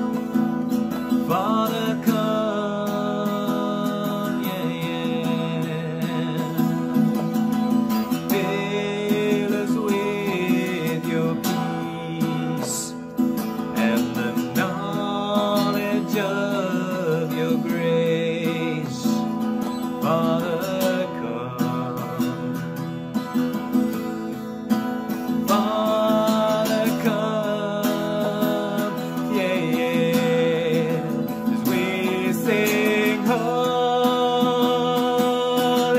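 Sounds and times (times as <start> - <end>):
acoustic guitar strumming: 0.0 - 35.9
man singing worship song: 1.2 - 6.8, 8.2 - 13.0, 13.7 - 19.4, 20.0 - 22.6, 25.4 - 35.9.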